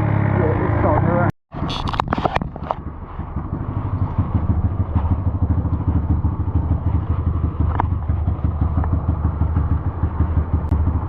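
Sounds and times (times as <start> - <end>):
dirt bike engine at low revs: 0.0 - 11.0.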